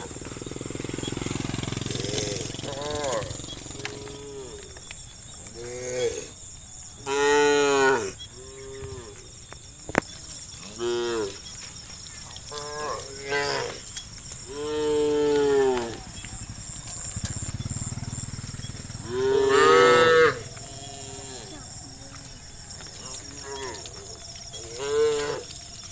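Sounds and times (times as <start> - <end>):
cows mooing: 0.0 - 4.8, 7.0 - 9.3, 10.6 - 11.6, 12.4 - 25.9.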